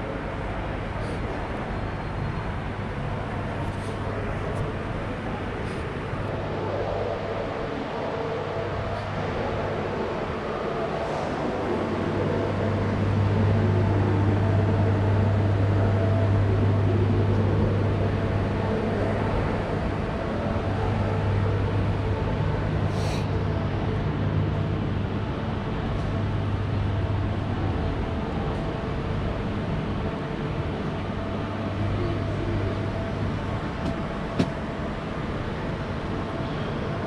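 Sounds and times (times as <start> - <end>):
low hum: 0.0 - 36.8
broad rushing background: 0.0 - 37.0.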